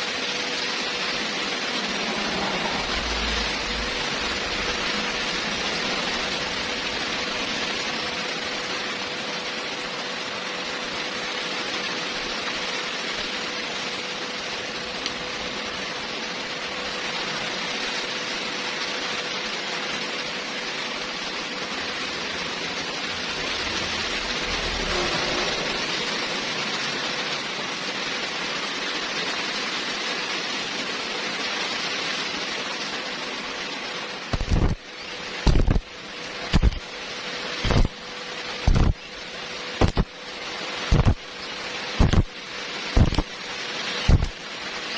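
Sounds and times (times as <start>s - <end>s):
arc welding crackling hiss: 0.0s - 44.9s.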